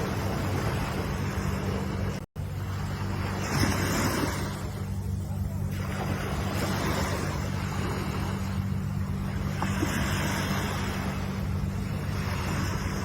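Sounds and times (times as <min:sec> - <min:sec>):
ocean waves washing in: 0:00.0 - 0:13.0
steady low rumble: 0:00.0 - 0:13.0.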